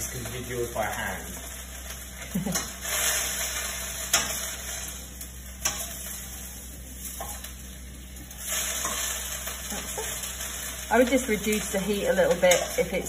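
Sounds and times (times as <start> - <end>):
greens sizzling in frying pan: 0.0 - 13.0.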